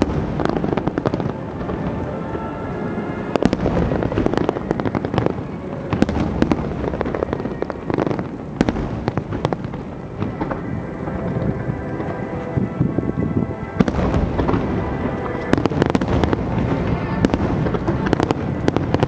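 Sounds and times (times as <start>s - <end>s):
constant low rumble: 0.0s - 19.0s.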